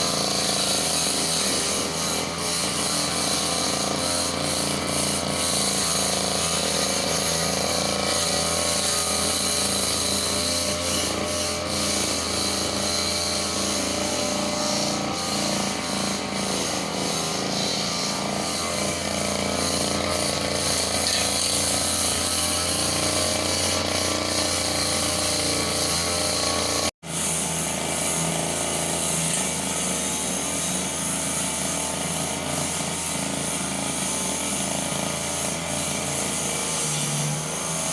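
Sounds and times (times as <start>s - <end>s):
brush cutter engine running: 0.0s - 37.9s.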